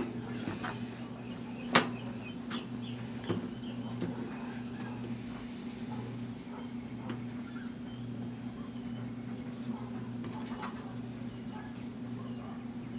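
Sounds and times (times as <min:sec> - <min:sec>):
low electrical hum: 0:00.0 - 0:12.9.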